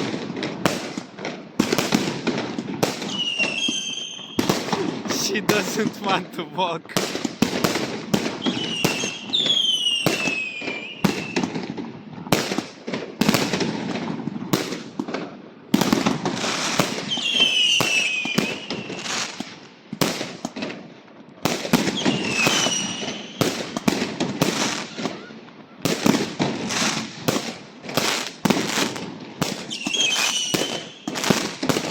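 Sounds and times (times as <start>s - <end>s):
whistling fireworks: 0.0s - 6.4s, 7.0s - 20.8s, 21.4s - 31.9s
firecracker bangs and crackles: 0.0s - 31.9s.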